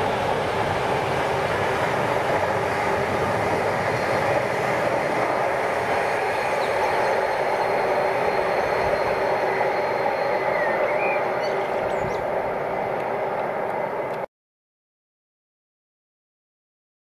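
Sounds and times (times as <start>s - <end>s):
freight train wheels rolling on rails: 0.0s - 14.3s.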